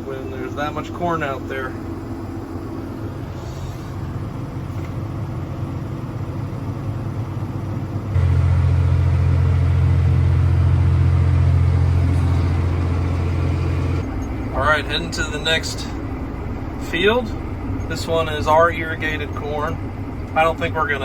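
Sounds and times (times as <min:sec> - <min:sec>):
harvest machinery engine drone: 0:00.0 - 0:21.0.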